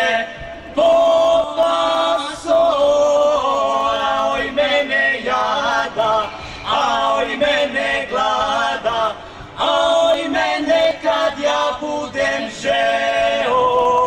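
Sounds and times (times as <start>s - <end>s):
mixed vocal group singing folk song: 0.0s - 14.0s.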